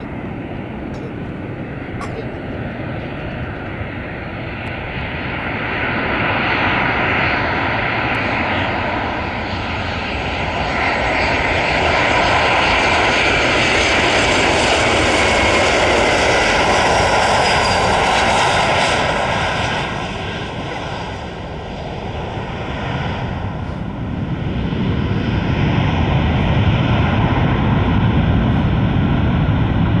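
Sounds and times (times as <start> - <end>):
deep jet rumble: 0.0 - 30.0
jet engines rushing: 0.0 - 30.0.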